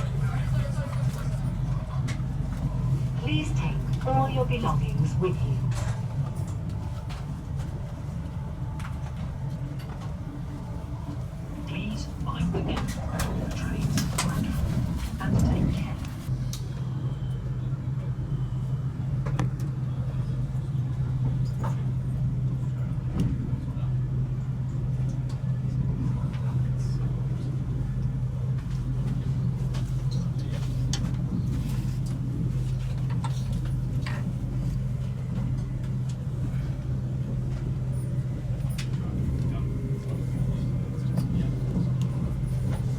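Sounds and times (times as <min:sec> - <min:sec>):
train humming: 0:00.0 - 0:42.9.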